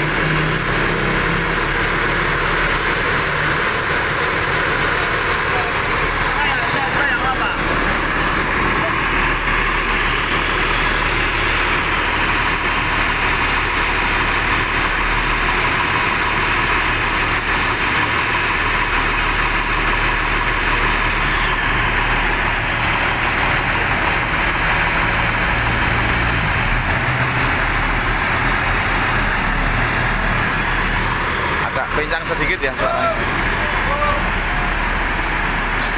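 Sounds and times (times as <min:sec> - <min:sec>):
diesel engine idling unevenly: 0:00.0 - 0:35.9.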